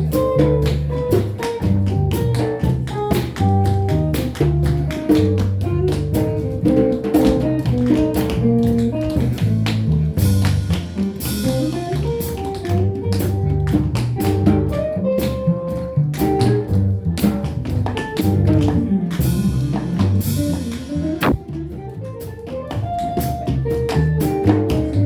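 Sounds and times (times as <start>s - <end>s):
tap shoes clicking: 0.0s - 15.6s, 16.2s - 19.2s, 20.0s - 25.0s
double bass: 0.0s - 25.0s
drums: 0.0s - 25.0s
jazz guitar melody: 0.0s - 25.0s.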